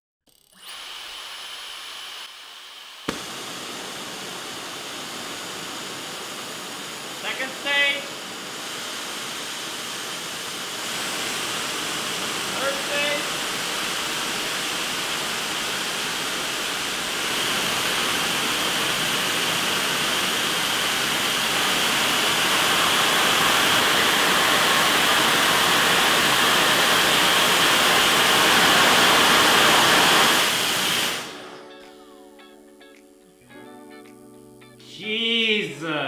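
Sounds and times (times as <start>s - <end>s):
small jet engine roaring with whine: 0.6s - 31.7s.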